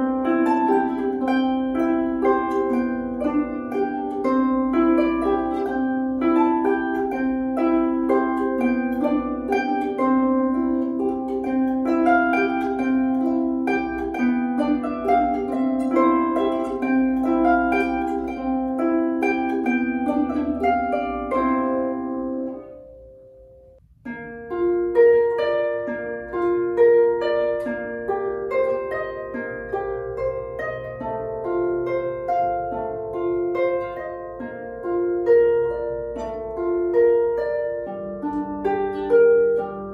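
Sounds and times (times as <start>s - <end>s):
plucked harp melody: 0.0s - 39.9s.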